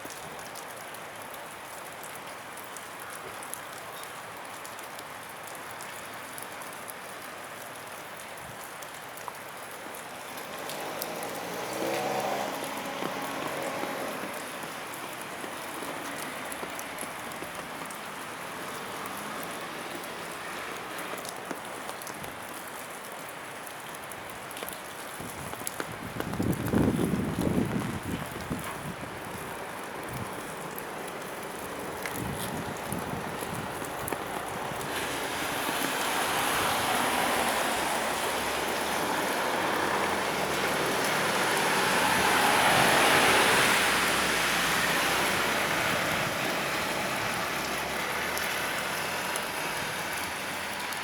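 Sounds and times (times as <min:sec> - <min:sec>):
rain pattering: 0:00.0 - 0:51.0
water drips ticking: 0:00.0 - 0:51.0.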